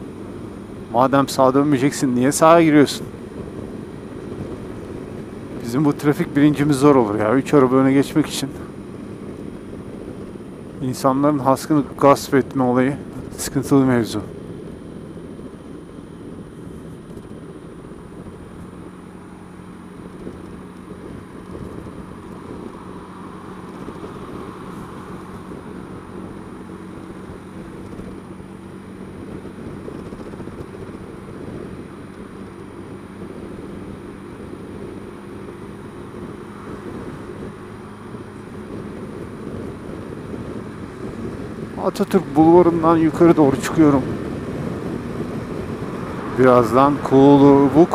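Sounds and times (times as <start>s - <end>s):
road noise: 0.0s - 47.9s
scooter engine humming: 0.0s - 47.9s.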